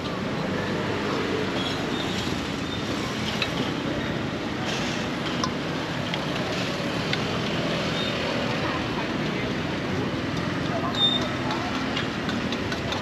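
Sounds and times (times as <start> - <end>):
roadside traffic: 0.0 - 13.0
street bustle: 0.0 - 13.0.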